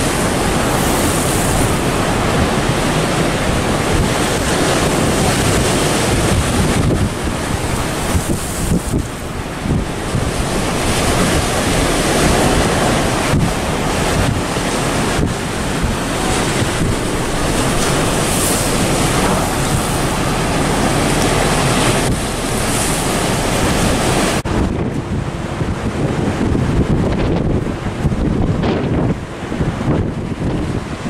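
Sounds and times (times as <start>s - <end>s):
choppy lake waves: 0.0s - 31.0s
gusty wind on microphone: 0.0s - 31.0s.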